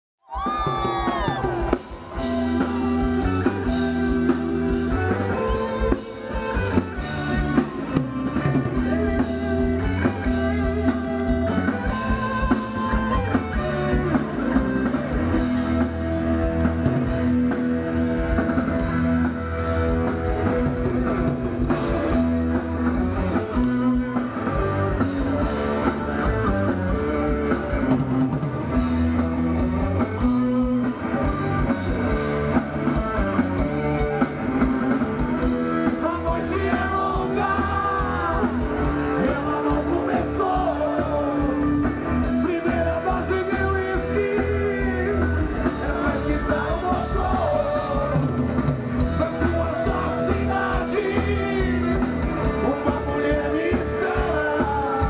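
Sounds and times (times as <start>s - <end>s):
drum kit: 0.2s - 55.0s
electric guitars: 0.2s - 55.0s.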